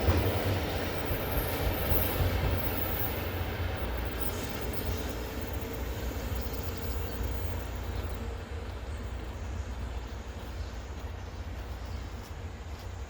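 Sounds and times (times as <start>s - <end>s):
train rumbling by on rails: 0.0s - 13.0s.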